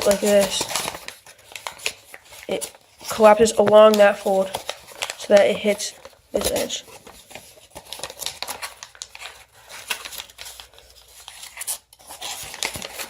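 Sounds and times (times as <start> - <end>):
paper folding and crinkling: 0.0 - 13.0.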